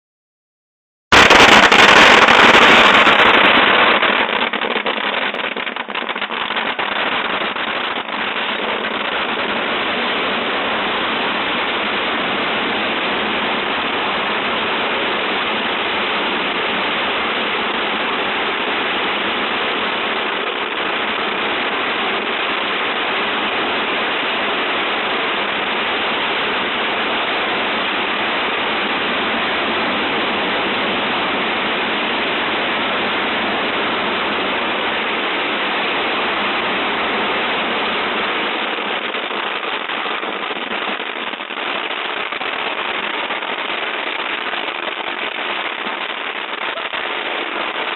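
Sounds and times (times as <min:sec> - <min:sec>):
bonfire flames roaring and crackling: 0:01.1 - 0:47.9.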